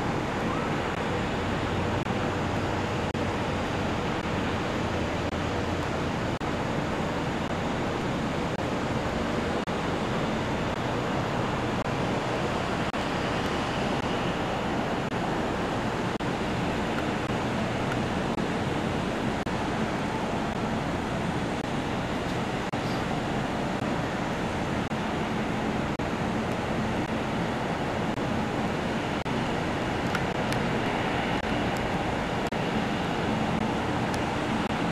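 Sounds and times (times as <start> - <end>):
distant traffic noise: 0.0 - 34.9.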